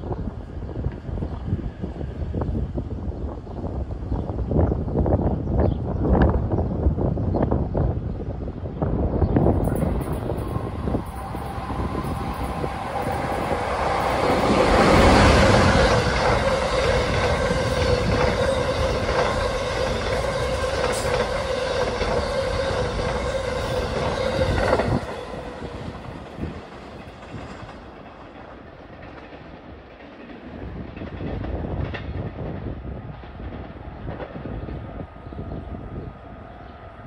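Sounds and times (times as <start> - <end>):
distant train rumble: 0.0 - 37.0
train passing at speed: 0.0 - 37.0.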